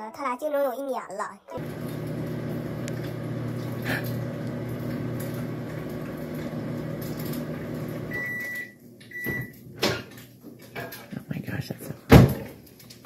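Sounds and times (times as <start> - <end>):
appliance electrical hum: 1.5 - 13.0.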